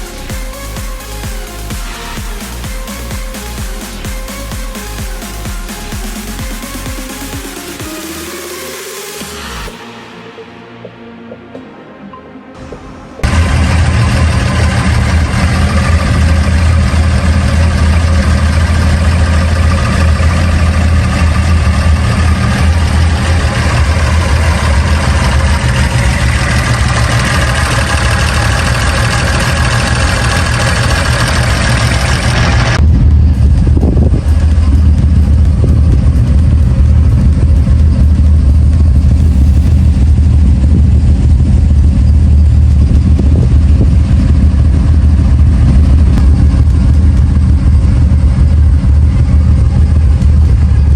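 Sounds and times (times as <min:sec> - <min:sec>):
car engine low drone: 0:00.0 - 0:50.9
loud rushing noise: 0:00.0 - 0:50.9.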